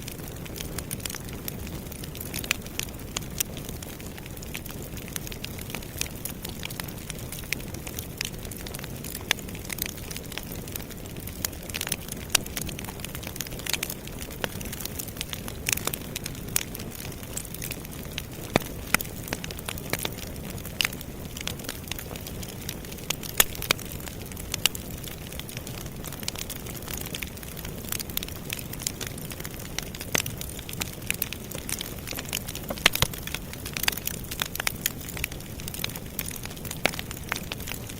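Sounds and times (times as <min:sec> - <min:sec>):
burning wood crackling and popping: 0:00.0 - 0:37.9.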